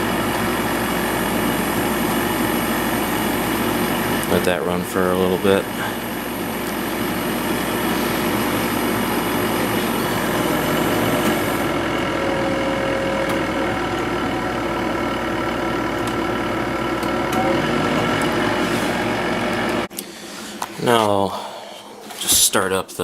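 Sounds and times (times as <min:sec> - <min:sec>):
window air conditioner humming: 0:00.0 - 0:23.0.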